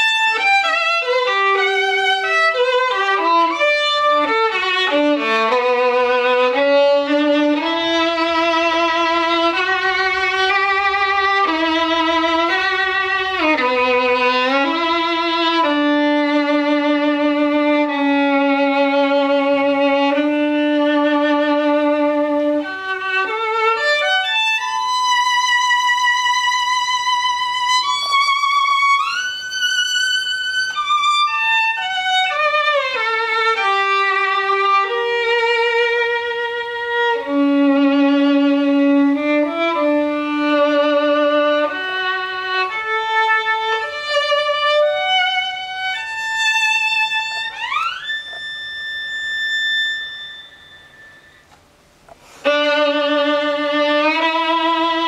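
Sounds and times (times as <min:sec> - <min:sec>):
solo violin melody: 0:00.0 - 0:55.0.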